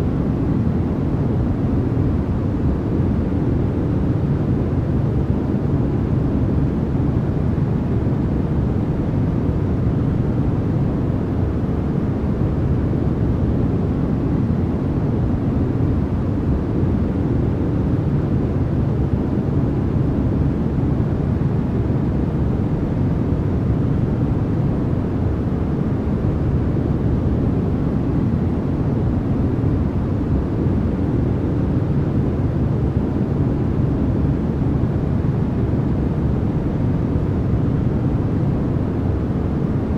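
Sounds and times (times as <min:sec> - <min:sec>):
deep white noise rush: 0:00.0 - 0:39.9.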